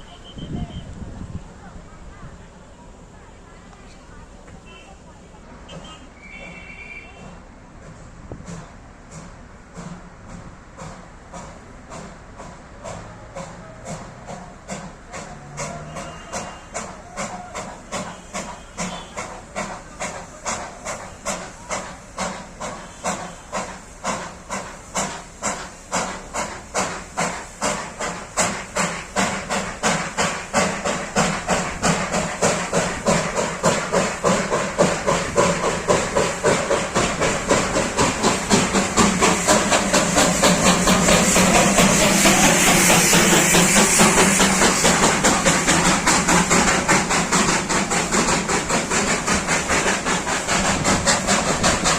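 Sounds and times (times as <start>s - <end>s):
steam hissing: 0.0s - 51.9s
steam locomotive exhaust chuffs: 0.0s - 51.9s.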